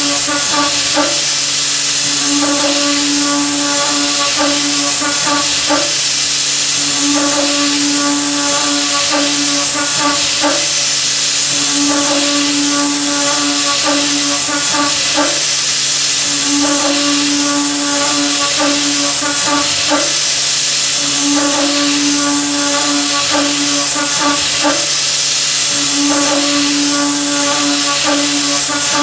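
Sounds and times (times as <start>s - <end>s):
milling machine hissing: 0.0s - 29.0s.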